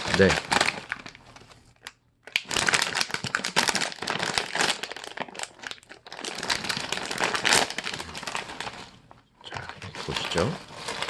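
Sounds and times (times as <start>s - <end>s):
plastic snack bag crinkling: 0.0s - 11.0s.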